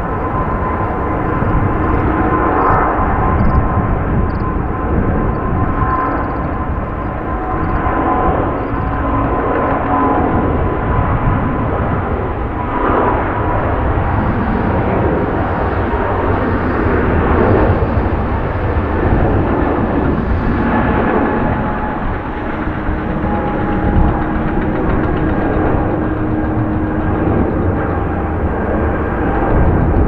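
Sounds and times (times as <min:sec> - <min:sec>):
faint whining tones: 0:00.0 - 0:30.0
jet engines rumbling: 0:00.0 - 0:30.0.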